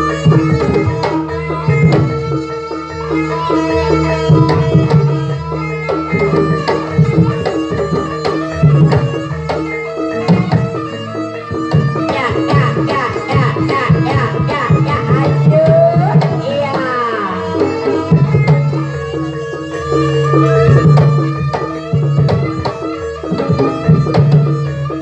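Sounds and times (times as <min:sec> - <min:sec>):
steady held tones: 0:00.0 - 0:24.9
hand drum playing busy rhythm: 0:00.0 - 0:25.0
struck pitched percussion: 0:00.0 - 0:25.0.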